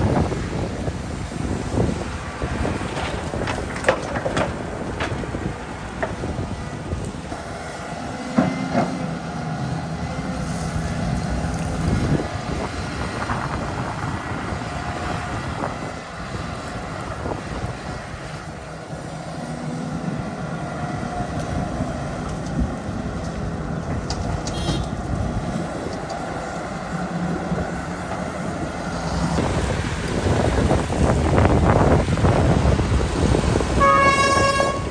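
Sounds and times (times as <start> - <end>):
excavator diesel engine: 0.0 - 34.9.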